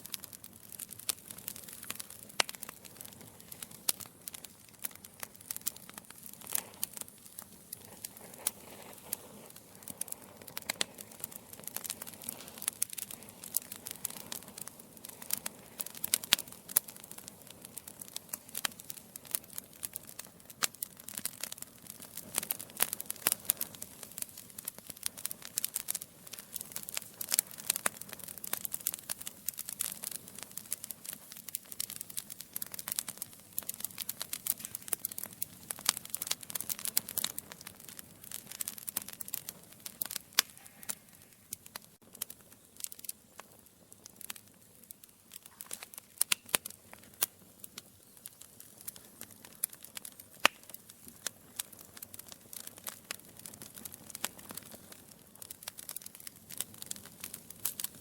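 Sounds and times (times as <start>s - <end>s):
low rumble of flame: 0.0s - 58.0s
wood fire crackling: 0.0s - 58.0s.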